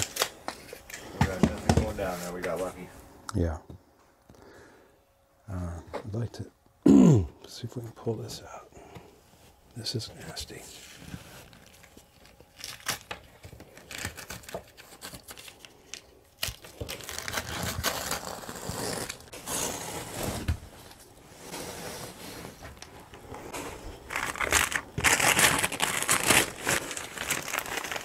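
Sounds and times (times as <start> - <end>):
insulation rustling and crinkling: 0.0 - 3.2, 7.7 - 28.0.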